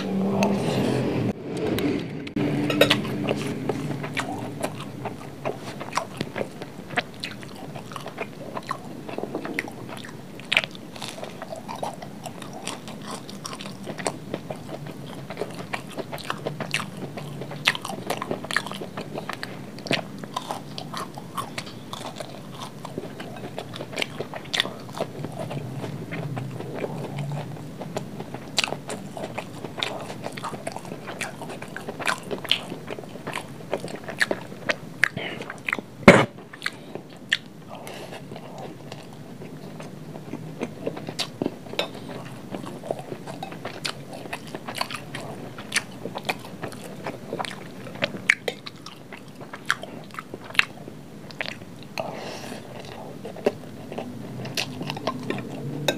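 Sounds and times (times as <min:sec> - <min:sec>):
chewing rice: 0:02.6 - 0:55.9.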